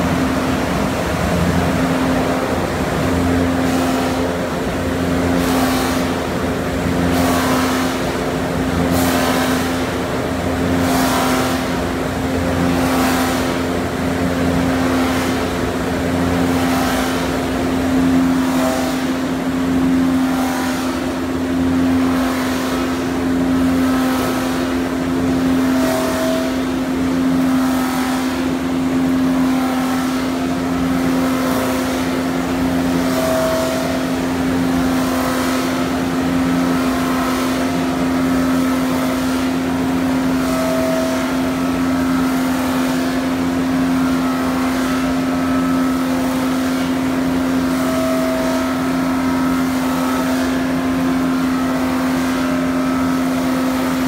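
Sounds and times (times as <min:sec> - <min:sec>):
lathe machine hum: 0:00.0 - 0:54.0.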